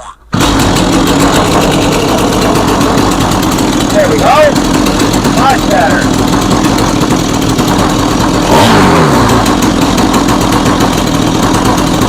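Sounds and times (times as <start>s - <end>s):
chainsaw engine revving: 0.3s - 12.0s.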